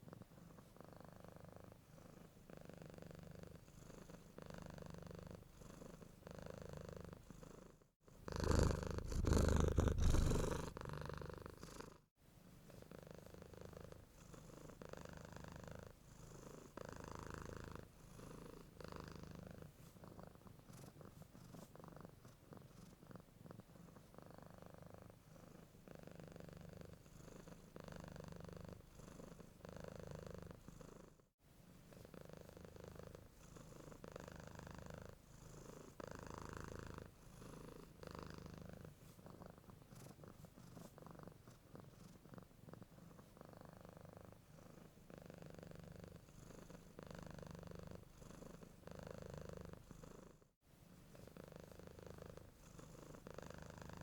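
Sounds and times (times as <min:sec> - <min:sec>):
cat purring: 0:00.0 - 0:31.2, 0:31.9 - 0:54.0.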